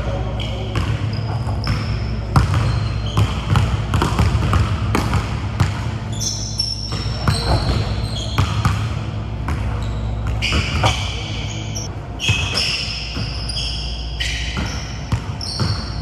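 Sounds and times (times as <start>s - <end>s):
basketballs bouncing on gym floor: 0.0s - 16.0s.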